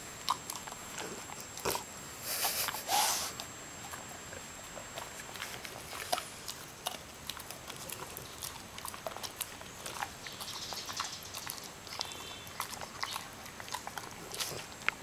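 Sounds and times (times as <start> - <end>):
dog chewing a snack: 0.0 - 15.0.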